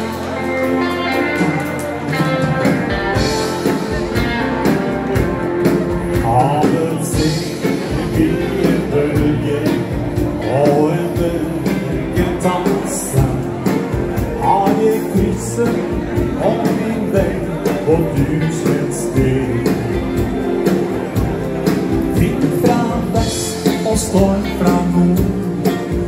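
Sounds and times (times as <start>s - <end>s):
bass guitar: 0.0s - 26.0s
drum kit beat: 0.0s - 26.0s
electric guitar: 0.0s - 26.0s
keyboard: 0.0s - 26.0s.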